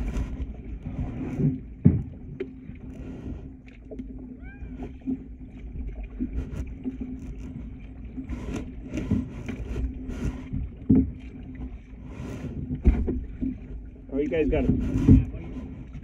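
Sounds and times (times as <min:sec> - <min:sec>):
paddle swishes and knocks: 0:00.0 - 0:04.1, 0:04.8 - 0:16.0.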